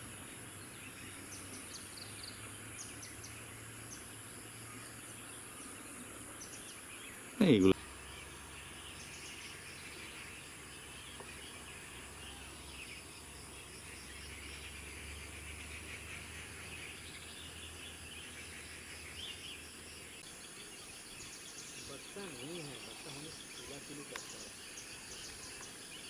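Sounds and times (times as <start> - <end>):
insects chirping: 0.0 - 26.0
small birds chirping: 0.0 - 26.0.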